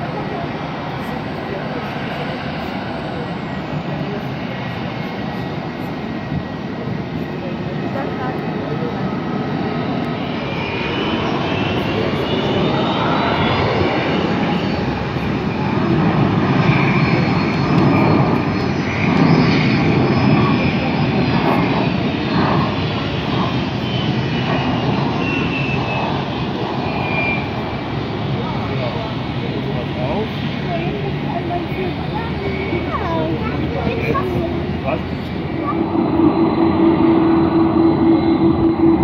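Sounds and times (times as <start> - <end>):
jet engines whining: 0.0 - 39.0.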